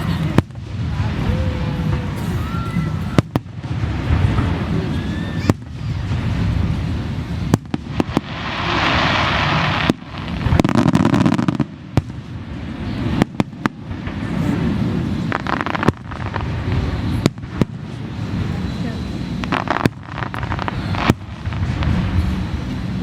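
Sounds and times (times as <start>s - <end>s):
fireworks bangs: 0.0s - 23.0s
fireworks crackling hiss: 0.0s - 23.0s
low rumbling booms: 0.0s - 23.0s.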